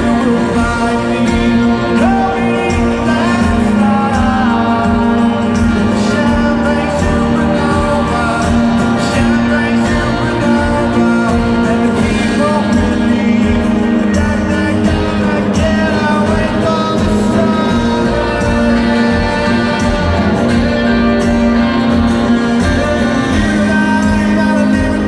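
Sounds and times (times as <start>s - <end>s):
lead vocal singing: 0.0s - 25.0s
live rock band: 0.0s - 25.0s.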